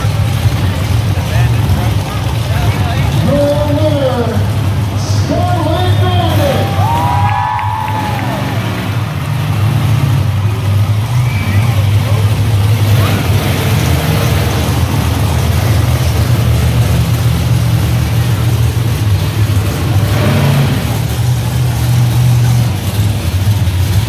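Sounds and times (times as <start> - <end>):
monster truck engine running: 0.0 - 24.0.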